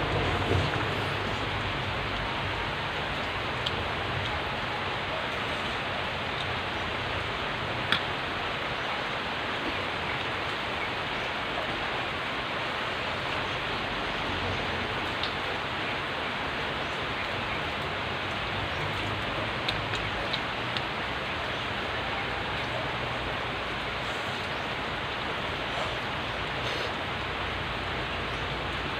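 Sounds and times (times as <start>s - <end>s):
steady hissing noise: 0.0s - 28.9s.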